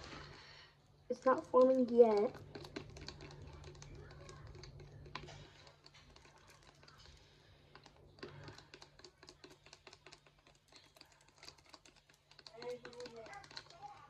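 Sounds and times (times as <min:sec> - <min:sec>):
straw clicking in plastic tub: 0:01.1 - 0:14.0.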